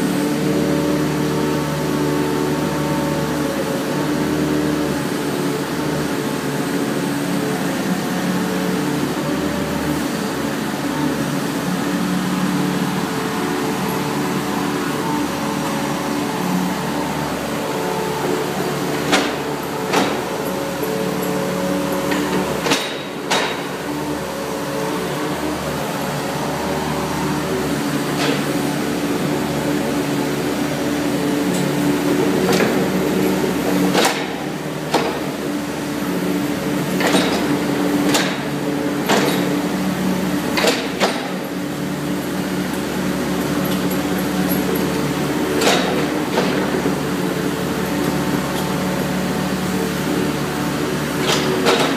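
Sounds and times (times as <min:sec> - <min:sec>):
diesel excavator engine running: 0:00.0 - 0:51.9
hydraulics working: 0:00.0 - 0:51.9.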